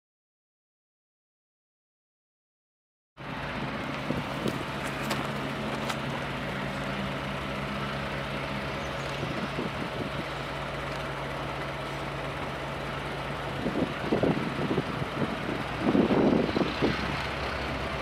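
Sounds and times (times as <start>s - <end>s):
distant diesel locomotive engine: 3.2s - 18.0s.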